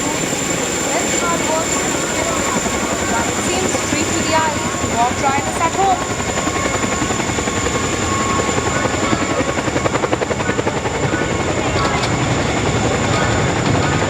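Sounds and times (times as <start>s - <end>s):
helicopter high whine: 0.0s - 14.0s
helicopter rotor blades chopping: 0.0s - 14.0s.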